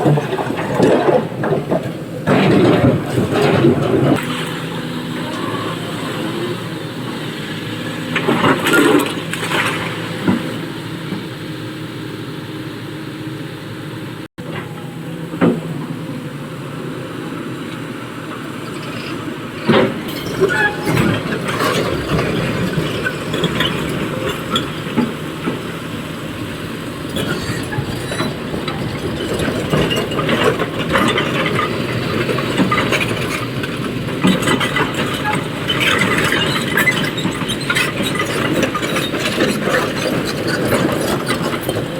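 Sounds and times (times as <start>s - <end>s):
diesel excavator engine running: 0.0s - 41.9s.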